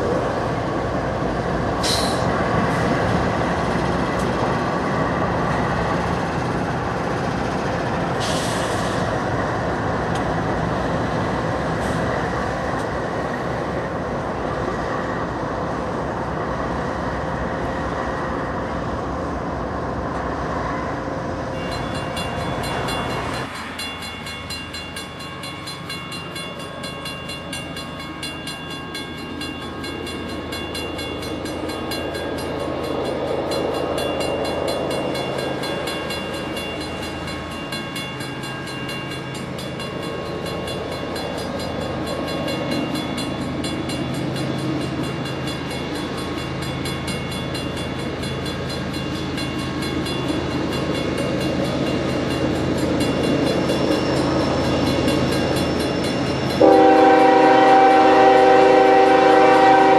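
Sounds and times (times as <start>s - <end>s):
diesel locomotives passing: 0.0s - 59.9s
locomotive engine drone: 0.0s - 59.9s.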